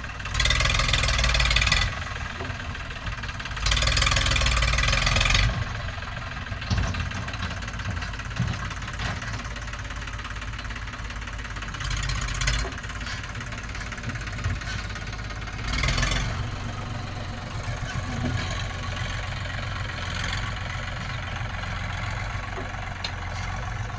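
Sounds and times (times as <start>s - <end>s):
heavy diesel engine knocking rumble: 0.0s - 23.9s.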